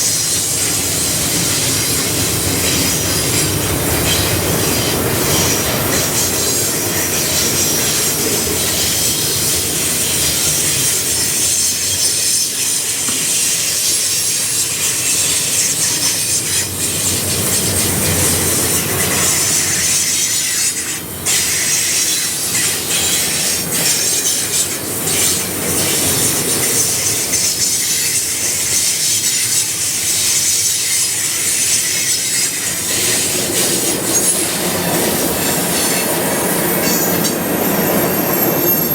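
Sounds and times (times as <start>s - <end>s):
freight train wheels rumbling: 0.0s - 38.9s
wheel squeal: 0.0s - 38.9s.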